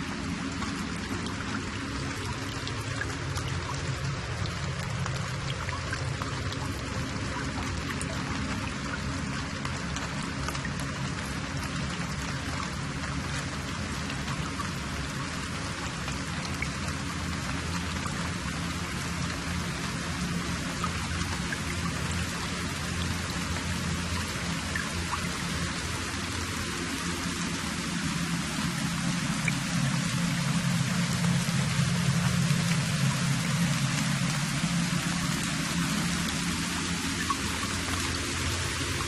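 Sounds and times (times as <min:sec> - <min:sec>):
low hum: 0:00.0 - 0:39.0
rain-like hiss: 0:00.0 - 0:39.0.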